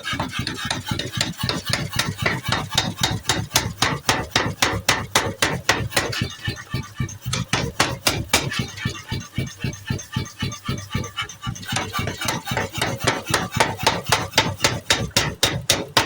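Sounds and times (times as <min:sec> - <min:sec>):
power hammer striking metal: 0:00.0 - 0:16.0.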